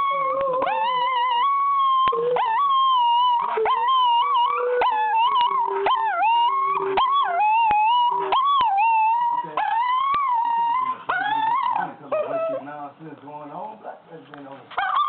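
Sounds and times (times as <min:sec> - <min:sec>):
small dog howling: 0:00.0 - 0:12.7, 0:14.8 - 0:15.0.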